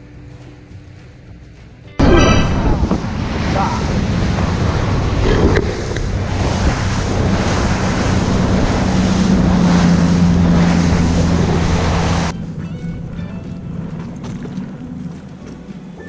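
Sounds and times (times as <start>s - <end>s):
wind buffeting microphone: 2.0s - 15.8s
boat engine drone: 2.0s - 16.0s
rushing water: 2.0s - 16.0s.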